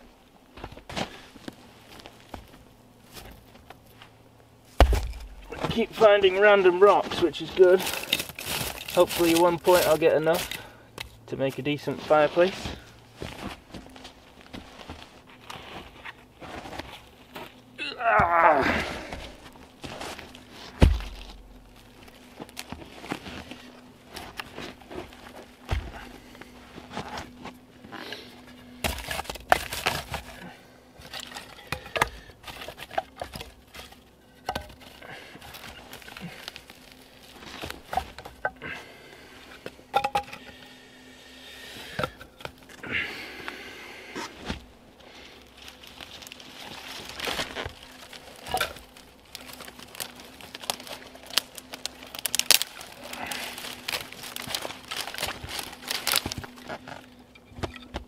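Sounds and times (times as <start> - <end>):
dry twigs crackling and snapping: 4.7 - 40.7, 44.4 - 58.0.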